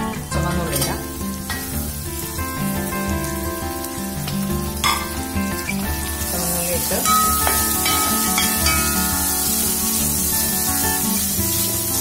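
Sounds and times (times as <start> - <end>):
food sizzling in oil: 0.0 - 12.0
instrumental background music: 0.0 - 12.0.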